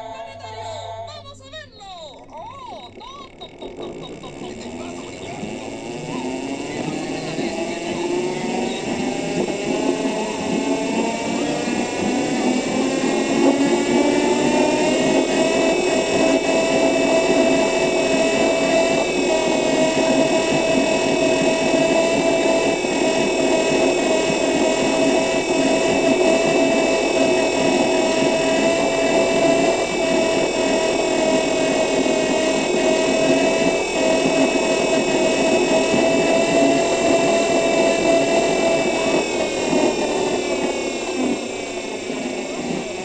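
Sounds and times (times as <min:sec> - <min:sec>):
electric bus whine: 0:00.0 - 0:43.0.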